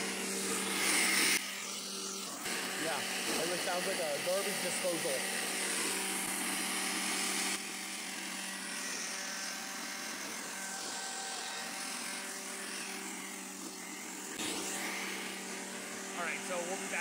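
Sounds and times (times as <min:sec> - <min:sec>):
electric sander humming: 0:00.0 - 0:17.0.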